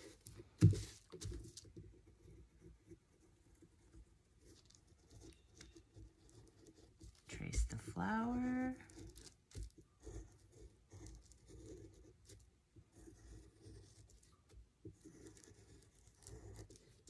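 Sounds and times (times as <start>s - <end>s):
pencil scratching on paper: 0.0s - 17.0s.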